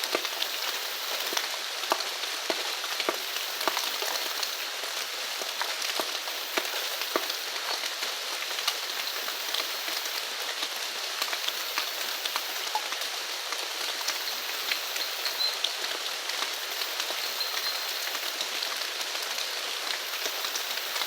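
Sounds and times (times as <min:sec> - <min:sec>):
raindrops pattering close by: 0:00.0 - 0:21.0
steady rain falling: 0:00.0 - 0:21.0.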